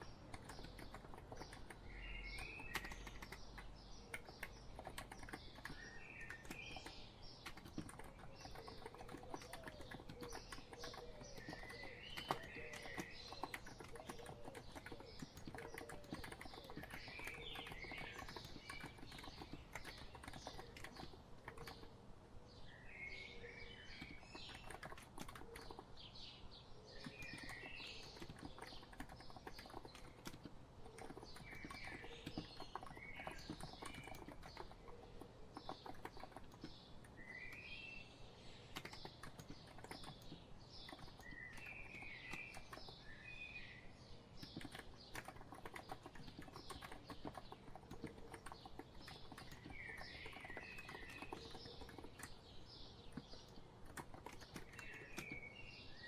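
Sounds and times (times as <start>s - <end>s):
keyboard typing: 0.0s - 22.0s, 23.9s - 26.0s, 27.0s - 37.7s, 38.7s - 43.0s, 44.4s - 55.5s
birds chirping: 0.0s - 56.0s.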